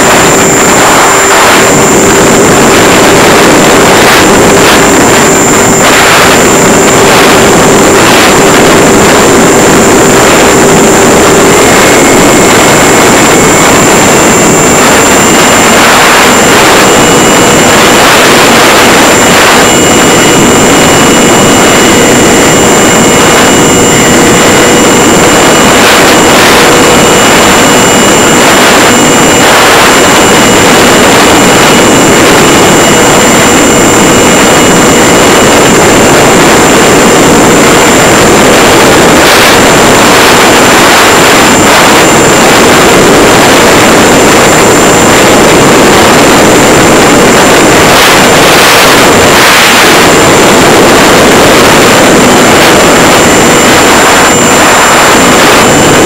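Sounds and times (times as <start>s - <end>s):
electric motor whine: 0.0s - 56.0s
wind noise on microphone: 0.0s - 56.0s.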